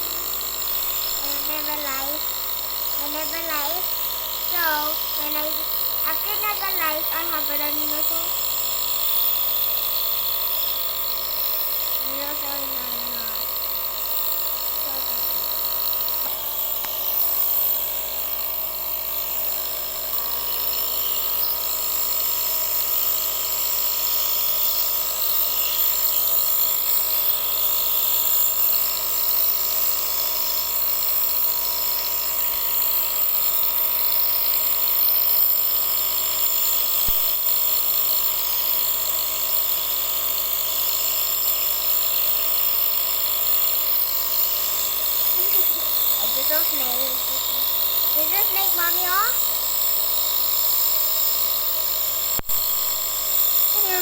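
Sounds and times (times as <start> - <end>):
small electric motor whining: 0.0 - 54.0.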